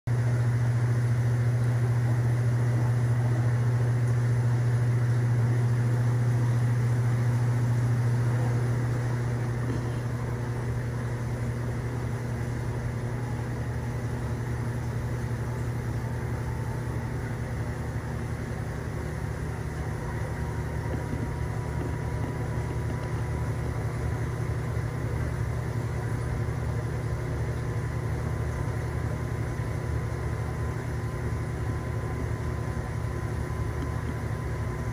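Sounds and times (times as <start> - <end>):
aquarium equipment humming: 0.1 - 34.9
faint whine: 0.1 - 34.9.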